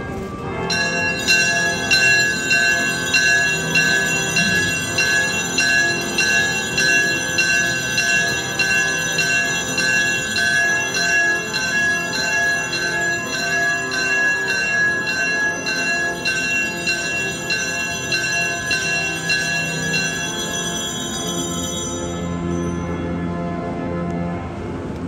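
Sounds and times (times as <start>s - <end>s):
church bells ringing: 0.0s - 25.0s
faint music: 0.0s - 25.0s.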